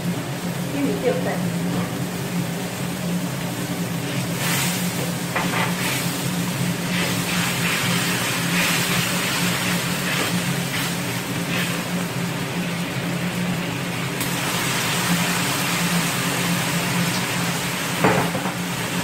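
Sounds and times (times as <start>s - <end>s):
low mechanical hum: 0.0s - 19.0s
sauce sizzling in a wok: 0.0s - 19.0s.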